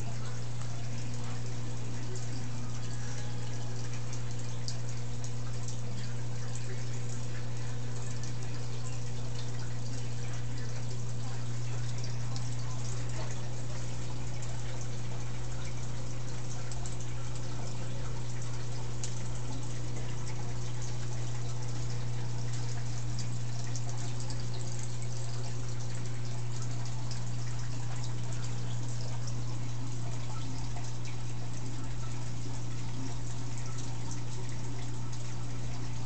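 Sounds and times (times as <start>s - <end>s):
aquarium filter hum: 0.0s - 36.0s
water splashing and trickling: 0.0s - 36.0s.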